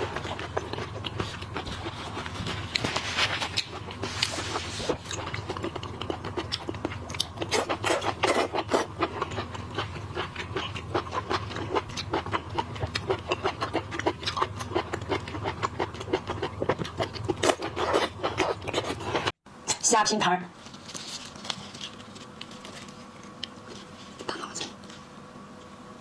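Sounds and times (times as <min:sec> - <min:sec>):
chewing shellfish: 0:00.0 - 0:19.4, 0:20.9 - 0:25.1.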